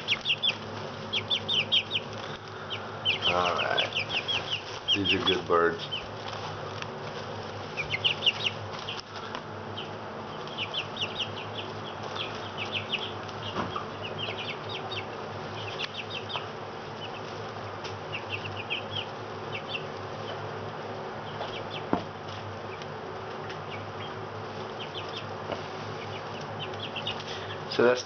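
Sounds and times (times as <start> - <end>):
chicks peeping: 0.0 - 28.0
steady low hum: 0.0 - 28.0.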